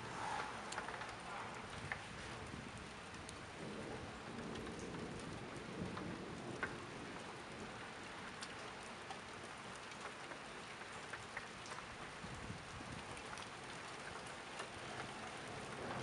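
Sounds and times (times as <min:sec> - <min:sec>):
raindrops striking close by: 0:00.0 - 0:16.0
steady rain falling: 0:00.0 - 0:16.0.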